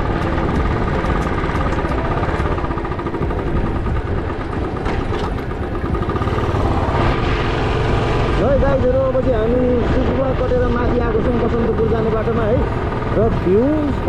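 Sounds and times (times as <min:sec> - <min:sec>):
rushing noise: 0:00.0 - 0:13.1
motorcycle engine running: 0:00.0 - 0:14.0.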